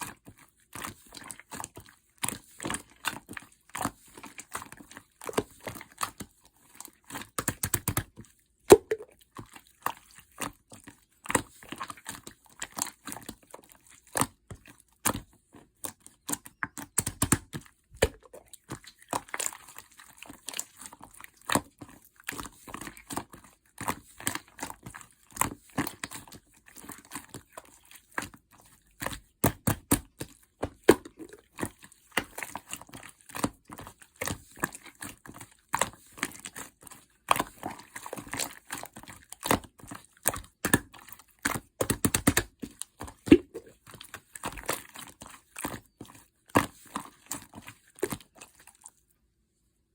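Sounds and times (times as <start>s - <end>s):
slime squished by hand: 0.0s - 49.0s.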